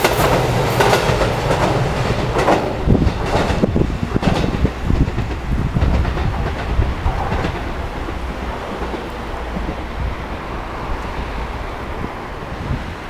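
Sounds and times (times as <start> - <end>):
train wheels clacking over rail joints: 0.0 - 11.4
railcar engine rumble: 0.0 - 13.0.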